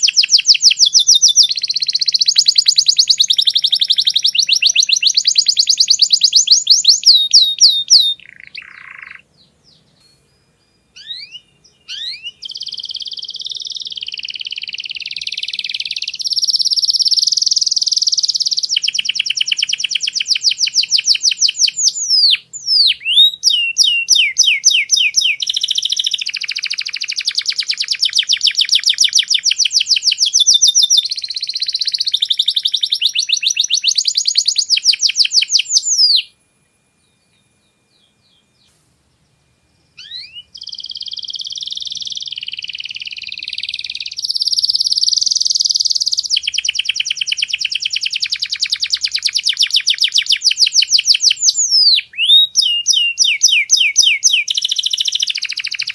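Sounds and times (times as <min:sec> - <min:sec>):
canary singing trills: 0:00.0 - 0:36.4, 0:37.0 - 0:55.9.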